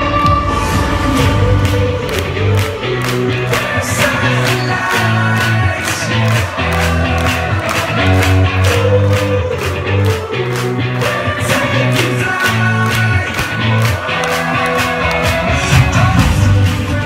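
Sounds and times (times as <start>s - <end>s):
electronic pop music: 0.0s - 17.0s
person singing: 0.0s - 17.0s.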